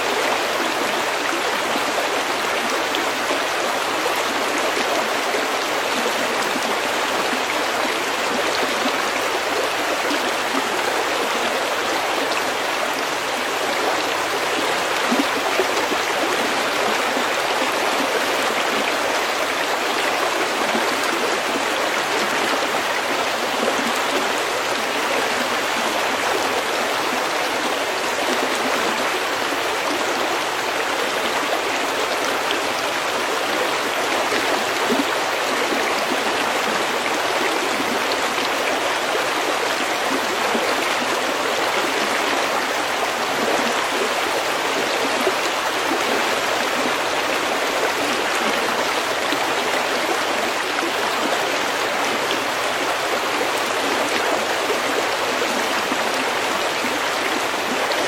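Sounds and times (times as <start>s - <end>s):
stream flowing over pebbles: 0.0s - 58.0s.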